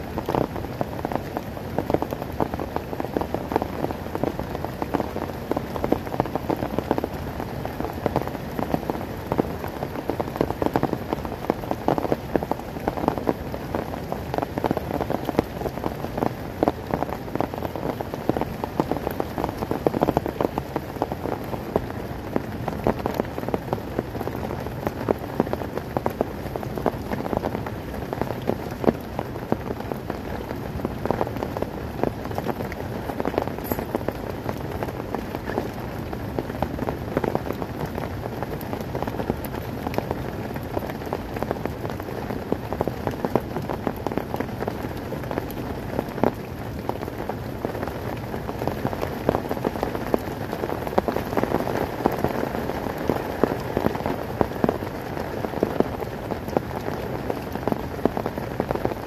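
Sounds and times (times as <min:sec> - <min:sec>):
heavy rain falling: 0:00.0 - 0:59.0
rain drops hitting a tarp: 0:00.0 - 0:59.0.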